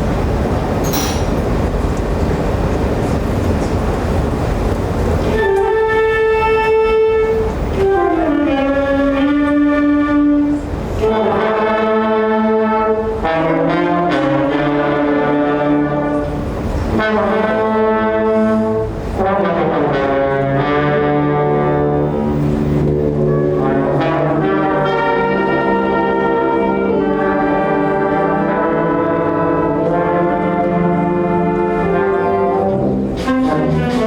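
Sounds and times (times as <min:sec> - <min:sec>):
band playing brass chords: 0:05.0 - 0:34.0.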